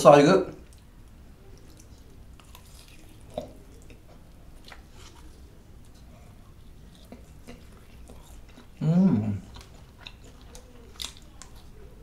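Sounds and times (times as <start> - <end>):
man chewing: 0.6 - 12.0.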